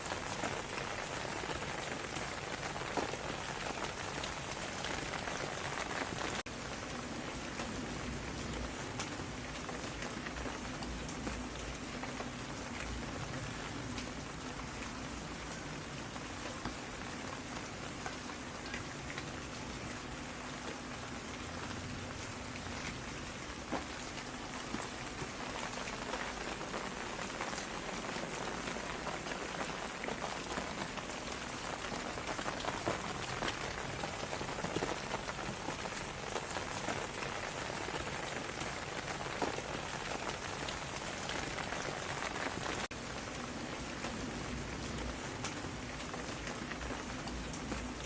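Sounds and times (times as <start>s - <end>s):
patter of raindrops: 0.0s - 48.0s
rain falling: 0.0s - 48.0s.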